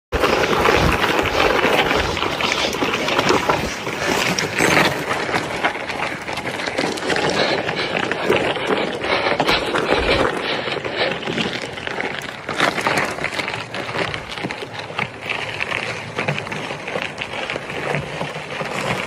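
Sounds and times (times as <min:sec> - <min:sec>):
tyre crunch and frame rattle: 0:00.1 - 0:19.0.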